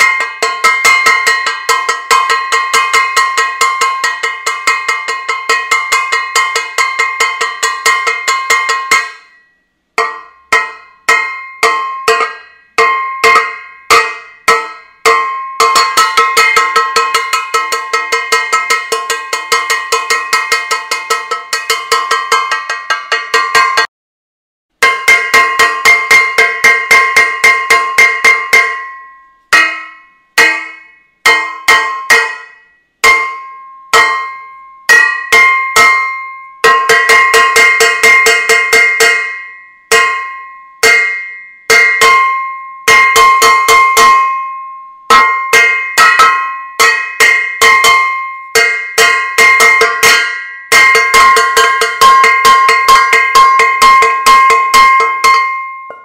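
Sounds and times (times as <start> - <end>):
metal saucepan being banged: 0.0 - 9.4, 10.0 - 23.9, 24.8 - 56.0.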